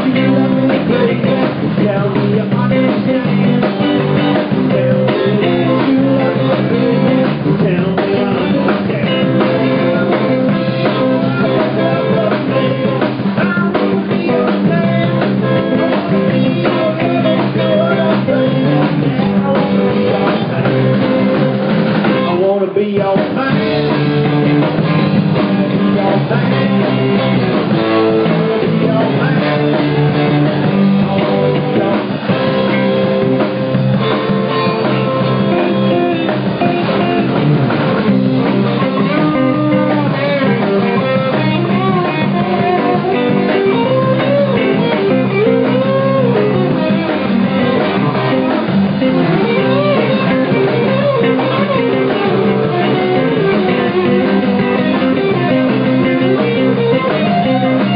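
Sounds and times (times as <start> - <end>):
lead guitar bending notes: 0.0 - 22.5, 23.4 - 57.9
rock band playing: 0.0 - 57.9.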